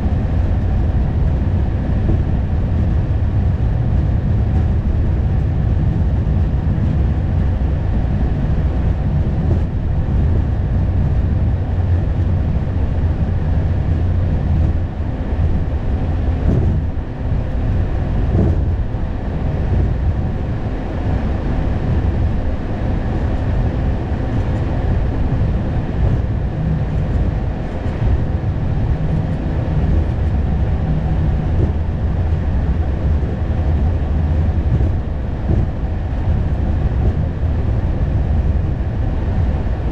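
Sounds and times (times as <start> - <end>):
aircraft cockpit rumble: 0.0 - 39.9.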